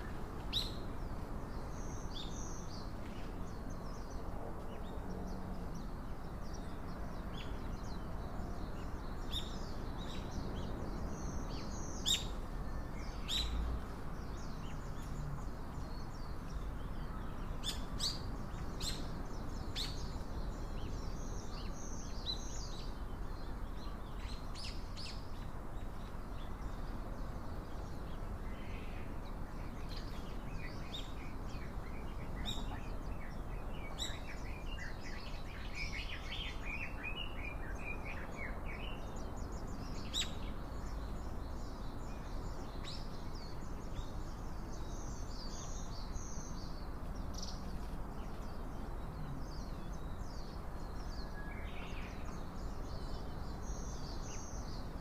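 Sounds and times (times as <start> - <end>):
low background noise: 0.0 - 55.0
small birds chirping: 0.0 - 55.0.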